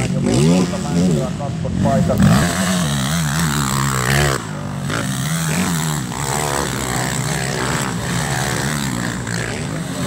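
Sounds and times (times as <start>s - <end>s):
quad bike engine revving: 0.0s - 10.0s.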